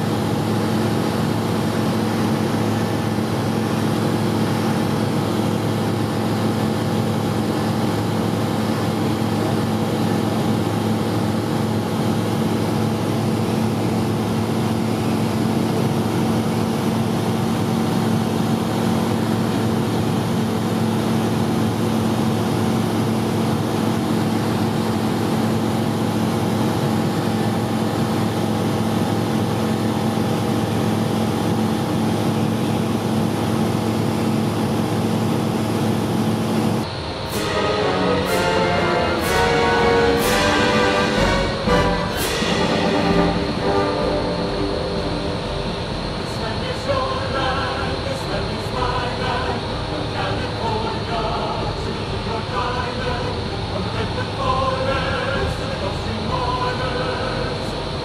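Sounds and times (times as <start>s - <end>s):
propeller airplane engine droning: 0.0s - 58.0s.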